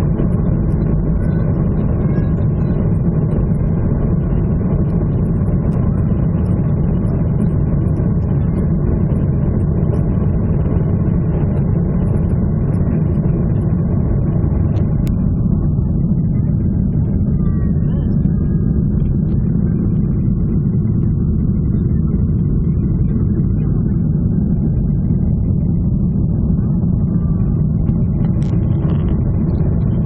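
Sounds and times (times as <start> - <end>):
jet engine rumble in cabin: 0.0 - 30.0.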